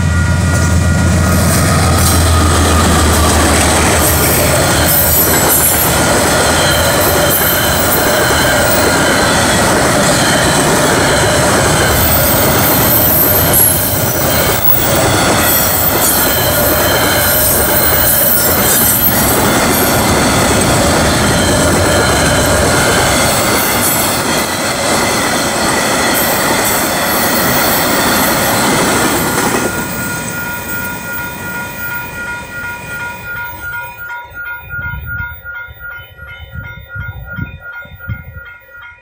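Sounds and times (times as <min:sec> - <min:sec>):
train wheels clickety-clack: 0:00.0 - 0:33.9
crossing warning bell: 0:00.0 - 0:39.0.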